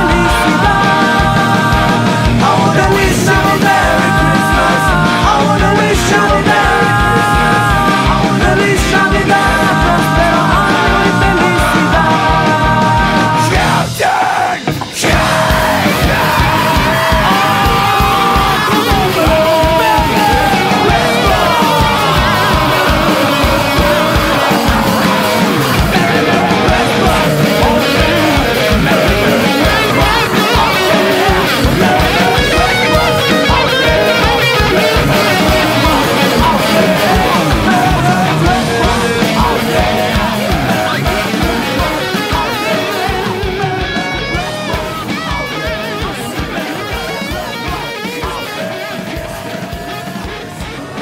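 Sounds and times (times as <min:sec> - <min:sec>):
pop-punk band playing: 0:00.0 - 0:51.0.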